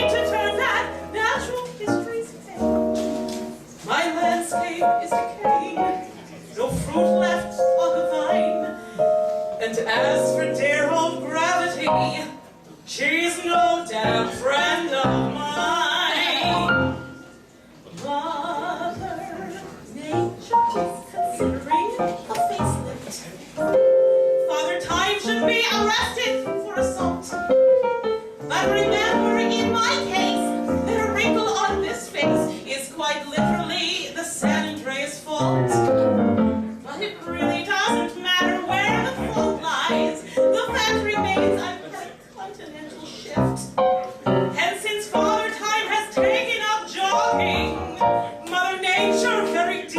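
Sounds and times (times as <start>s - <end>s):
woman singing: 0.0s - 3.0s, 3.9s - 6.0s, 6.6s - 8.8s, 9.6s - 17.1s, 17.9s - 23.0s, 24.4s - 27.5s, 28.5s - 35.8s, 36.9s - 41.9s, 44.5s - 49.9s
piano accompaniment: 0.0s - 17.5s, 20.0s - 42.0s, 43.3s - 49.9s.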